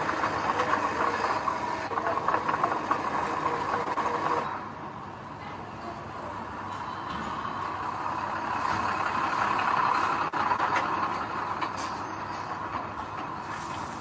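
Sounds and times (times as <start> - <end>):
heavy construction machinery: 0.0 - 14.0.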